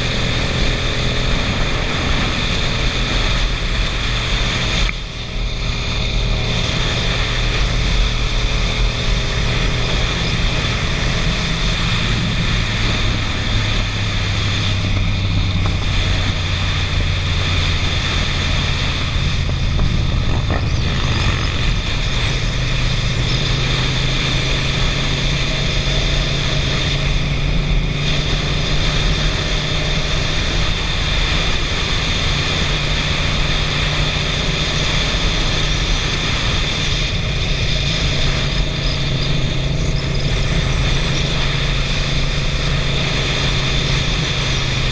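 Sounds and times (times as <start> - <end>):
motorcycle engine running: 0.0 - 44.9
road noise: 0.0 - 44.9.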